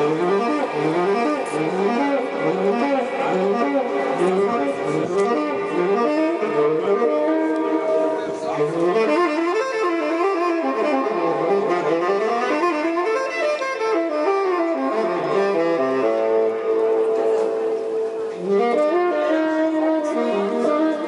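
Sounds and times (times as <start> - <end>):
saxophone melody with accompaniment: 0.0 - 21.0.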